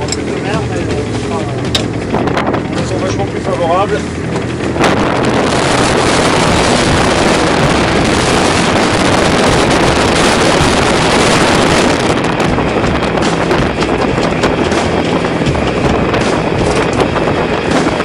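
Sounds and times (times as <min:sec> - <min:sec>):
sea water rushing: 0:00.0 - 0:18.0
strong wind on microphone: 0:00.0 - 0:18.0.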